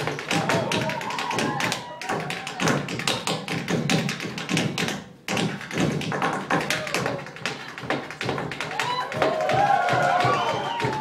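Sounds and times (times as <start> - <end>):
tap shoes on stage floor: 0.0 - 11.0.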